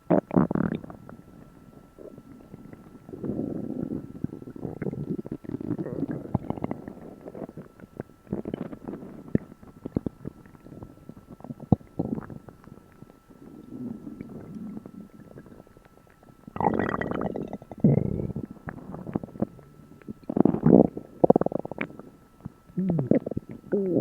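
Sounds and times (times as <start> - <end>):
stomach rumbling and gurgling: 0.0 - 24.0.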